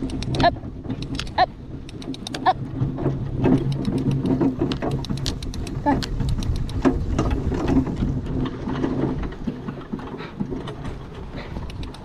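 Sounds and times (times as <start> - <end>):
cart frame and harness rattling: 0.0 - 12.0
rumble of wheels and hooves: 0.0 - 12.0.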